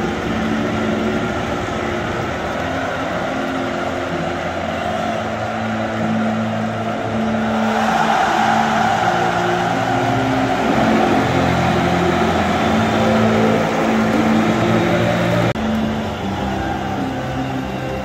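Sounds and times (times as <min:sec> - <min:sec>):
music with held notes: 0:00.0 - 0:18.0
stadium crowd cheering: 0:00.0 - 0:18.0.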